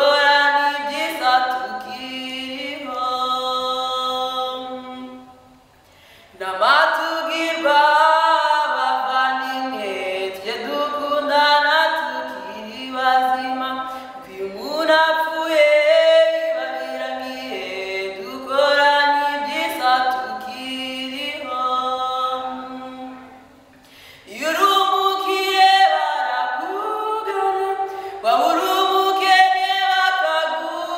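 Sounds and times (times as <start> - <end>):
woman singing unaccompanied: 0.0 - 5.6, 6.3 - 23.5, 24.2 - 30.9.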